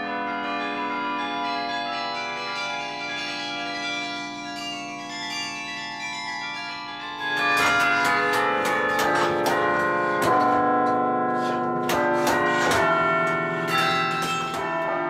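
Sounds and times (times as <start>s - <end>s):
carillon bells melody: 0.0s - 15.0s.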